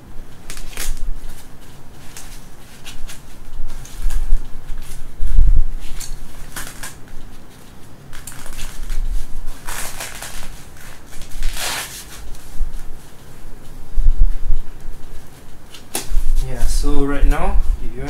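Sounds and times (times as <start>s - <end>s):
mattress rustling and crinkling: 0.4s - 18.0s.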